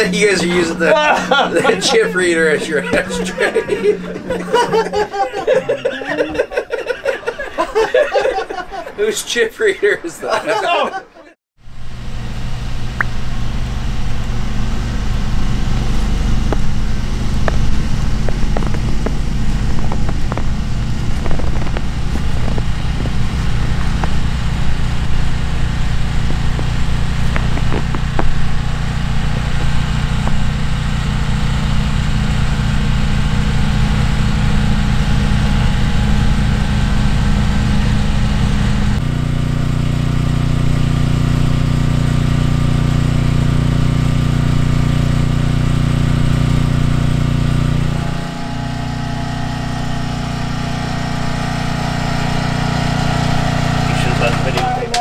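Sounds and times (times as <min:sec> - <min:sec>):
small engine running: 0:00.0 - 0:08.9, 0:11.7 - 0:55.0.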